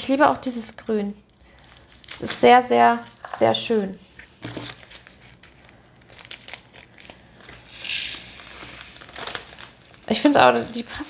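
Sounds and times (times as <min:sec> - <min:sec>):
plastic bags clicking and crinkling: 0:01.3 - 0:11.0.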